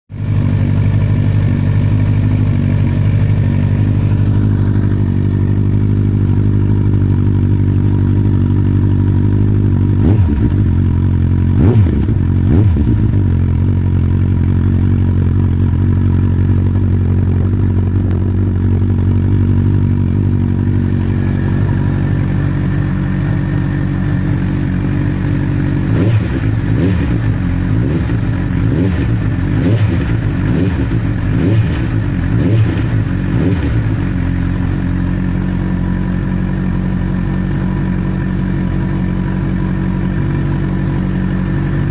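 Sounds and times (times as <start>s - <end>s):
motorcycle engine idling: 0.1s - 41.9s
motorcycle throttle blips: 0.2s - 41.9s.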